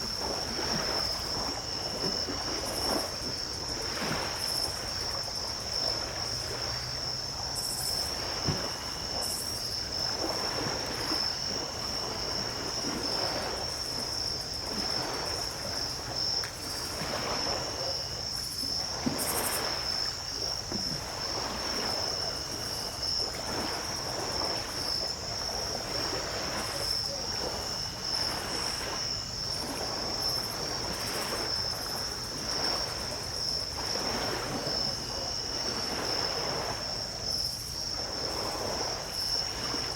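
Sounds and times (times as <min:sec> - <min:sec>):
insects trilling: 0:00.0 - 0:39.9
ocean surf washing onto beach: 0:00.0 - 0:39.9.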